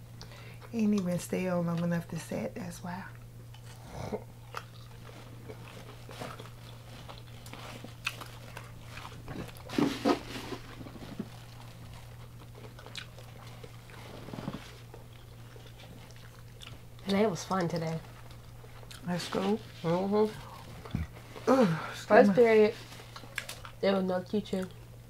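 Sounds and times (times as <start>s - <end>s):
chewing crispy fried food: 3.1s - 25.0s.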